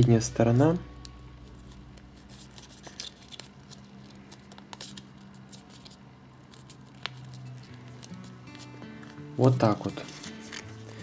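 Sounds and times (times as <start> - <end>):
paper crackling and crinkling: 1.4 - 11.0.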